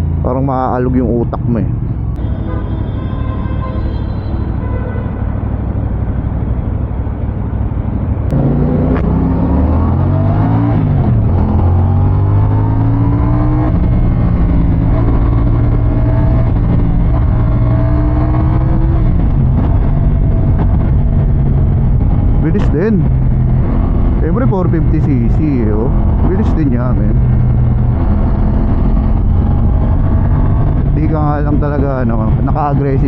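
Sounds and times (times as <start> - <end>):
motorcycle engine accelerating: 6.0 - 33.0.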